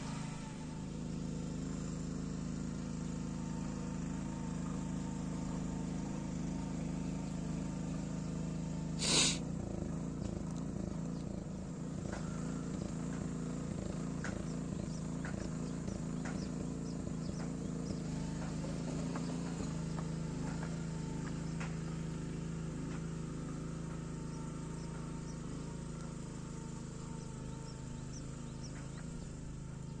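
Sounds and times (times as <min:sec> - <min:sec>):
low buzzing hum: 0:00.0 - 0:30.0.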